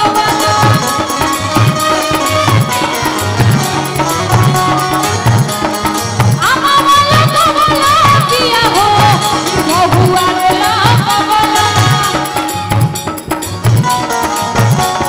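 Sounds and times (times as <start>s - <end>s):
woman singing: 0.0s - 12.7s
hand drums: 0.0s - 15.0s
keyboard accompaniment: 0.0s - 15.0s.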